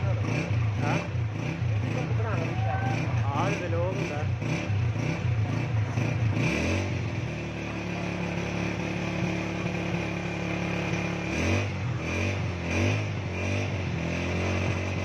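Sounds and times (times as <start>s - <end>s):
concrete mixer engine running: 0.0s - 15.0s.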